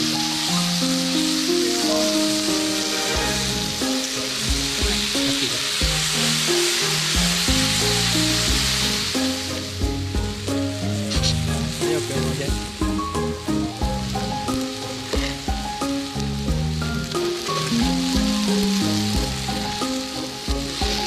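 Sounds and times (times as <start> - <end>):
food sizzling in a pan: 0.0 - 21.0
melodic background music: 0.0 - 21.0.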